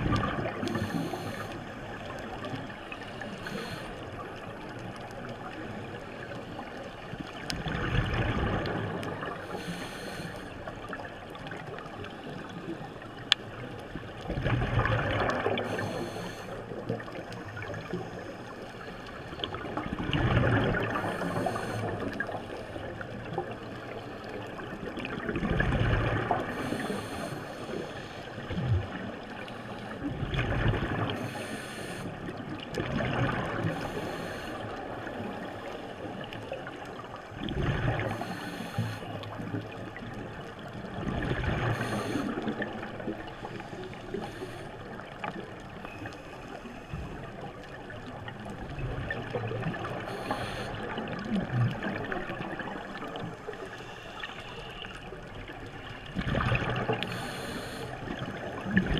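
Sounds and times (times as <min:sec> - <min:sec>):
gurgling exhaled bubbles: 0:00.0 - 0:06.6, 0:07.2 - 0:09.6, 0:13.9 - 0:18.4, 0:19.3 - 0:27.7, 0:29.9 - 0:45.7, 0:46.6 - 0:53.8, 0:55.5 - 0:58.9
watery background: 0:00.0 - 0:58.9.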